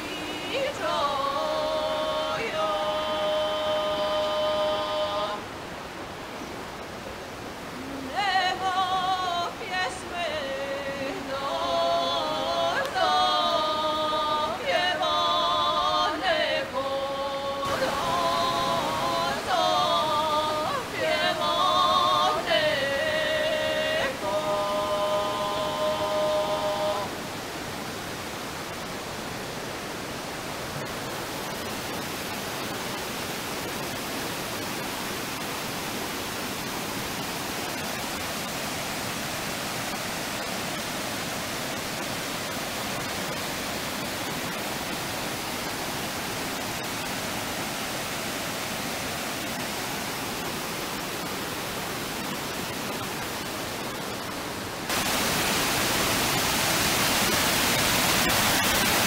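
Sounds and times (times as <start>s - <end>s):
waterfalls and rapids rushing: 0.0s - 59.0s.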